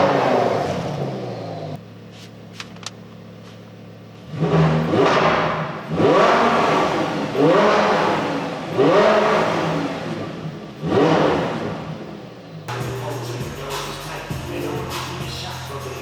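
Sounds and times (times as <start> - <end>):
car engine revving: 0.0 - 1.8, 4.0 - 16.0.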